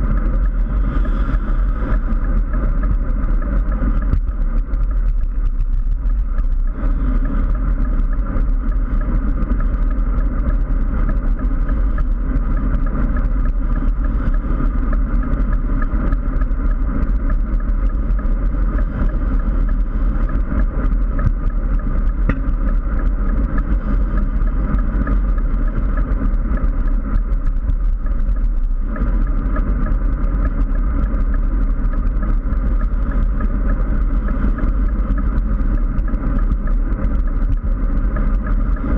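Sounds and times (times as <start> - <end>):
wind: 0.0 - 35.8
road rumble: 0.0 - 38.9.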